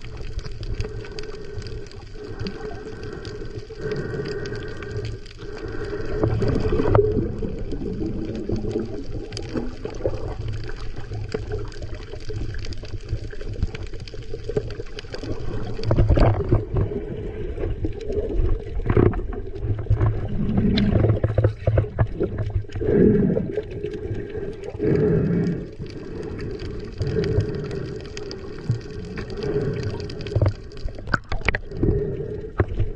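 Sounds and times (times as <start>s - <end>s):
muffled water sloshing and gurgling: 0.0s - 32.9s.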